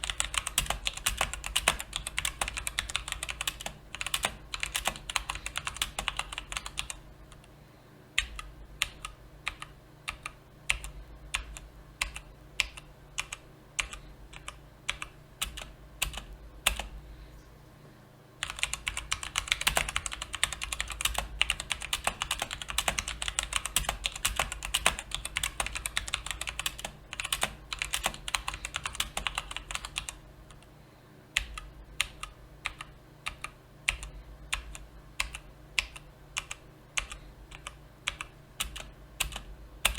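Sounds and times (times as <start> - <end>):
mechanical keyboard typing: 0.0 - 7.4, 8.2 - 16.9, 18.4 - 30.6, 31.4 - 39.9.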